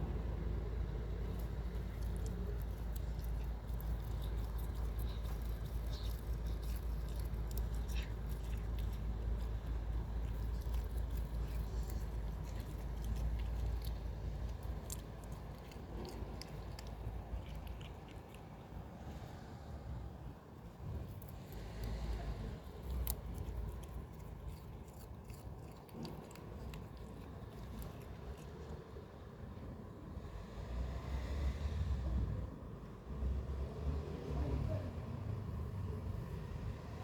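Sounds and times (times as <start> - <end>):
cat chewing grass: 0.0 - 31.4.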